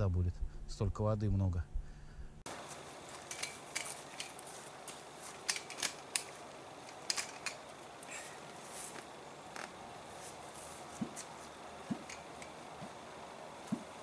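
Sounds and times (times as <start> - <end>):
steady hiss: 2.5 - 14.0.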